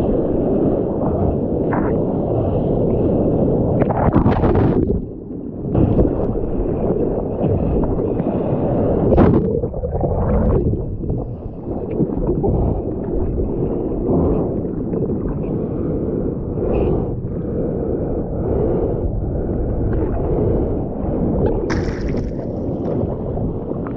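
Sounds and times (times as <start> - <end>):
wave splashing over camera: 0.0 - 17.5, 18.5 - 23.9
muffled underwater churning rumble: 0.0 - 23.9.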